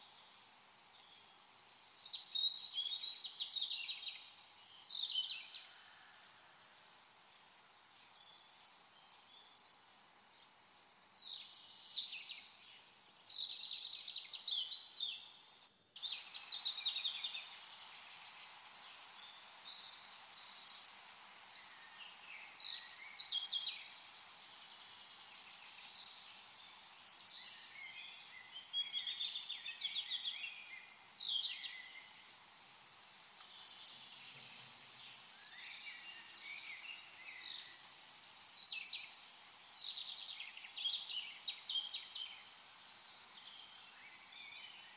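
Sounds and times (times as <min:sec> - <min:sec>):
background hiss: 0:00.0 - 0:44.9
songbirds chirping: 0:00.0 - 0:44.9.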